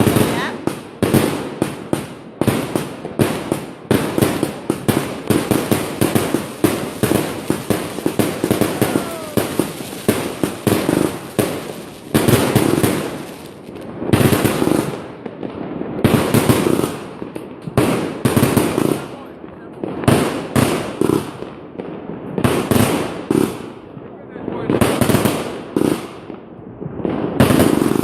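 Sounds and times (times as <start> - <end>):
fireworks bangs and crackling: 0.0 - 28.0
heavy firework booms: 0.0 - 28.0.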